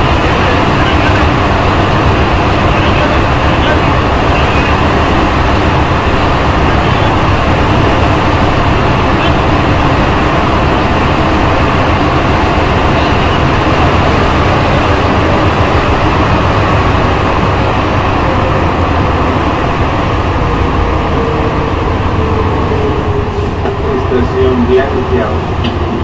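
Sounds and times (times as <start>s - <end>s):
train rumbling through tunnel: 0.0s - 26.0s.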